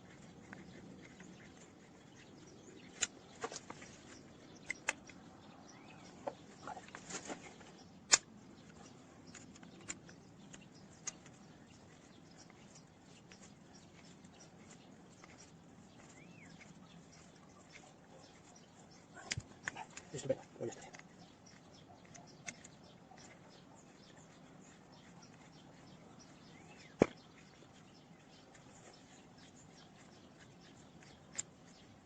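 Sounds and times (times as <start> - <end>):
light clicks and taps: 0.1 - 32.0.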